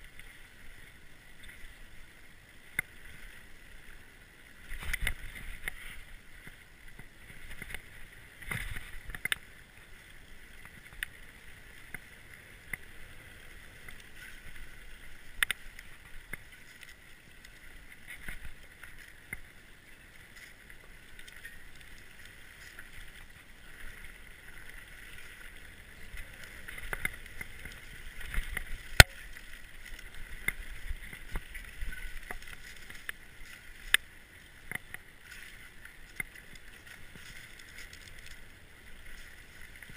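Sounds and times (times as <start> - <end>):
bike tyres rolling on dirt: 0.0 - 39.9.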